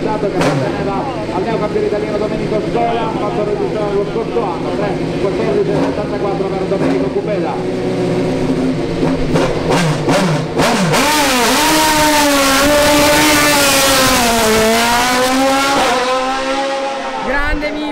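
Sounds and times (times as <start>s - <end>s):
race car engine revving: 0.0s - 17.9s.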